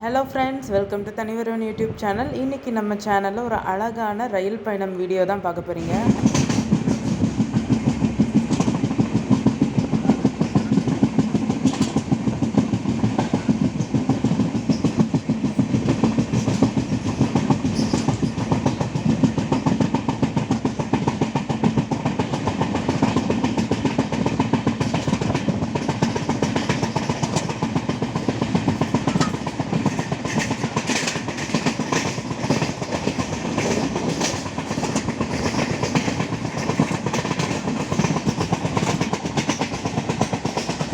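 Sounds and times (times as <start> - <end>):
train rumbling on rails: 0.0 - 40.9
wheels clicking over track: 5.8 - 40.9.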